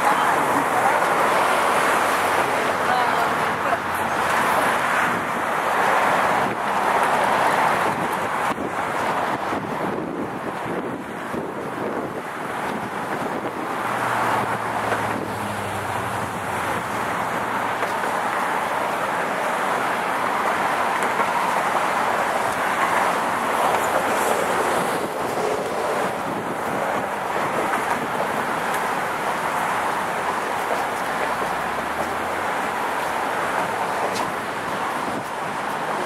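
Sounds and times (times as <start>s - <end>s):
road traffic passing: 0.0s - 36.0s
wind buffeting microphone: 0.0s - 36.0s.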